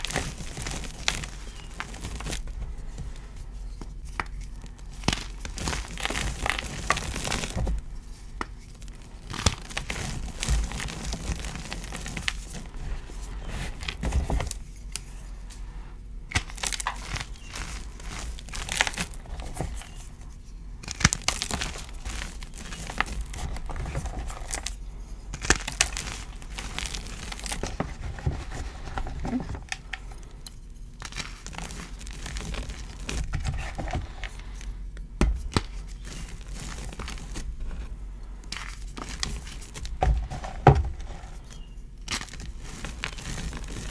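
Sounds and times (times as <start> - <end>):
powder rustling under fingers: 0.0 - 34.8, 35.4 - 43.9.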